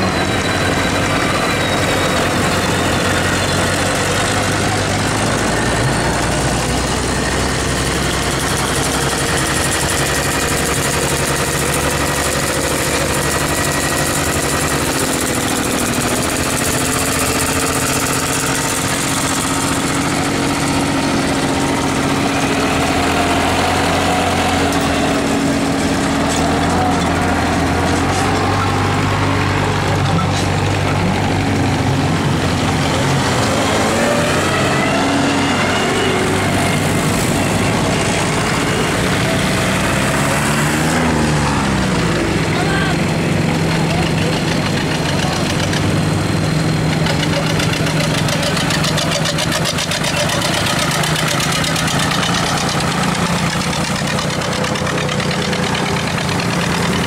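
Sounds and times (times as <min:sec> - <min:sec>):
farm machinery engines: 0:00.0 - 0:57.0.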